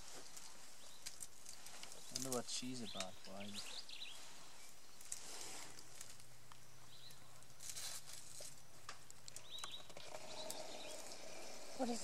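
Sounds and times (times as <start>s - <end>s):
rustling of vegetation: 0.0s - 12.0s.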